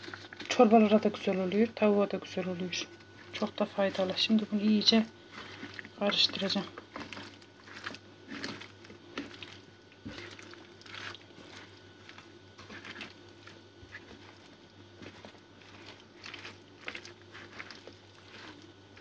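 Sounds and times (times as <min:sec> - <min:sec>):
food squelching and rustling by hand: 0:00.0 - 0:19.0.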